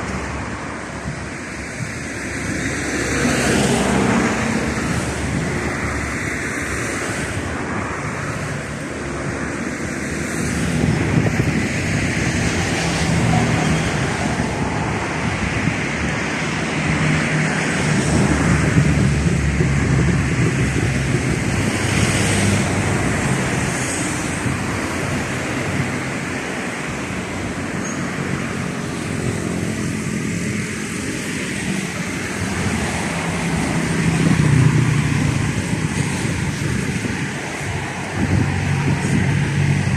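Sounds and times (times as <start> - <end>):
jet engine takeoff roar: 0.0 - 39.9.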